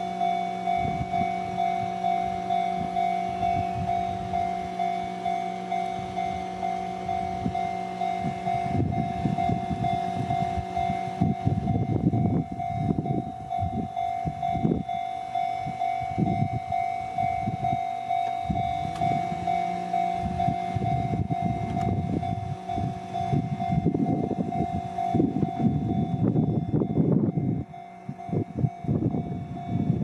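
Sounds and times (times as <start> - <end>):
low rumble: 0.0 - 30.0
railway crossing bell clanging: 0.0 - 30.0.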